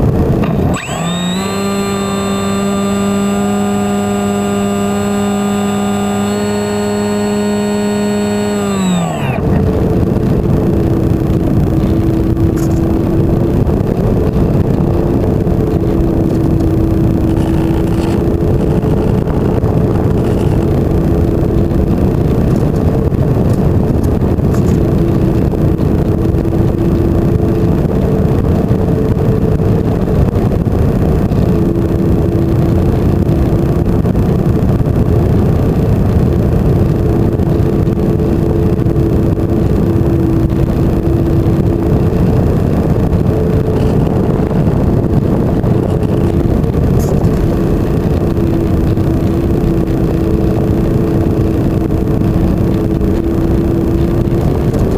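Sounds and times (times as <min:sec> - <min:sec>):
electric motor and propeller whining: 0:00.0 - 0:54.9
rush of air noise: 0:00.0 - 0:54.9.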